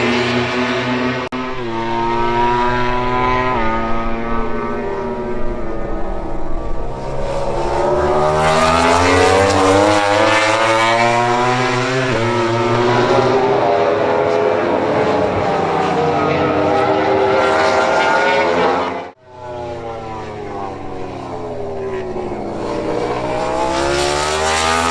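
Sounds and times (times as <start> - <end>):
racing motorcycles passing: 0.0 - 24.9.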